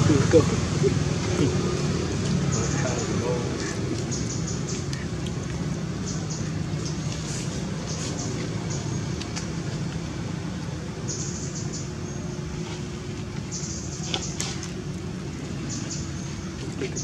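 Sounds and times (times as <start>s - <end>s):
low outdoor rumble with hum: 0.0s - 17.0s.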